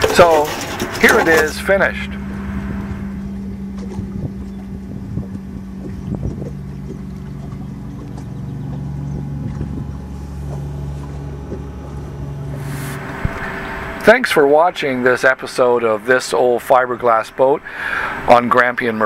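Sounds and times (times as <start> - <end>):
cooler fan humming: 0.0 - 19.0.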